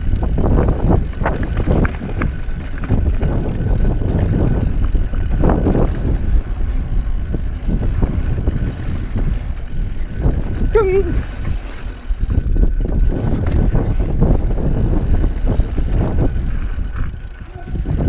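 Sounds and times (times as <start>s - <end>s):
bike rattling over rocks: 0.0s - 18.0s
bike tyres rumbling: 0.0s - 18.0s
wind on microphone: 0.0s - 18.0s.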